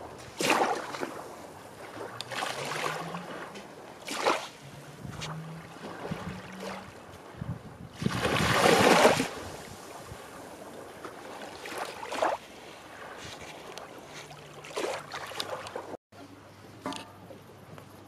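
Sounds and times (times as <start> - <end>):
waves washing on beach: 0.0 - 16.0.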